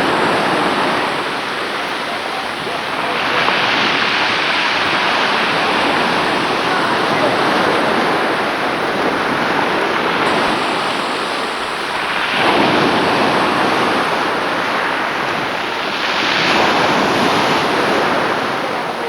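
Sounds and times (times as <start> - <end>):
sea waves washing in: 0.0 - 19.0
wind buffeting microphone: 0.0 - 19.0.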